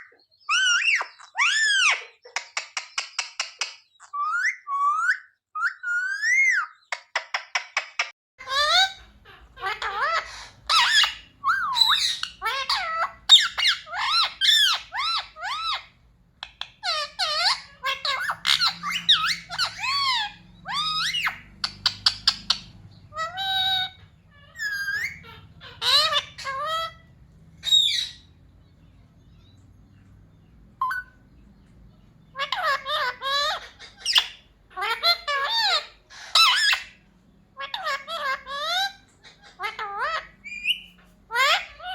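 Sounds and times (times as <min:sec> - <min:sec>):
parrot chattering and squawking: 0:00.0 - 0:41.9.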